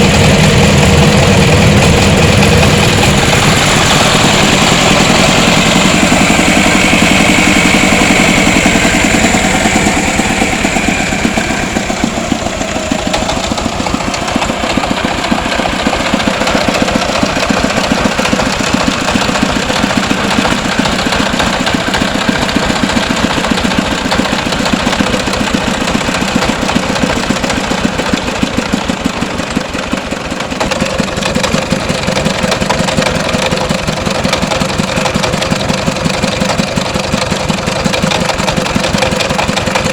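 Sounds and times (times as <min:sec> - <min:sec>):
engine chugging: 0:00.0 - 0:39.9.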